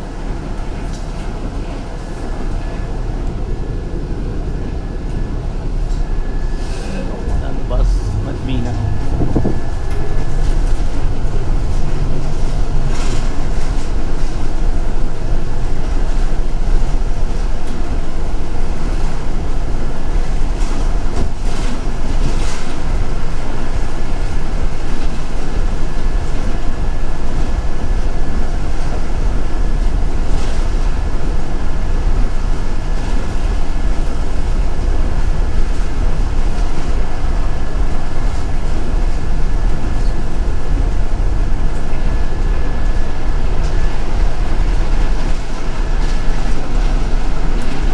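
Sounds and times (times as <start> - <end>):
bus engine and road rumble: 0.0 - 47.9
thin constant whine: 0.0 - 47.9.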